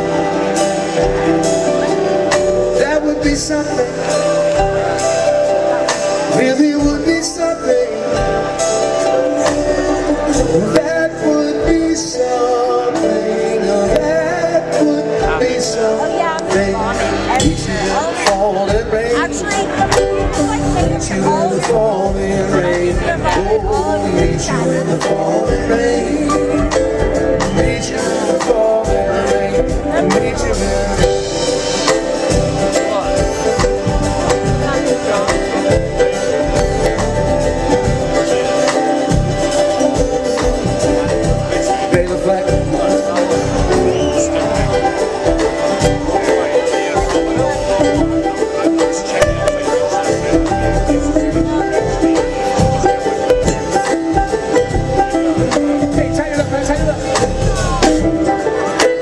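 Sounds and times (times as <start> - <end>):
bluegrass band playing: 0.0 - 59.0
plucked banjo notes: 0.0 - 59.0.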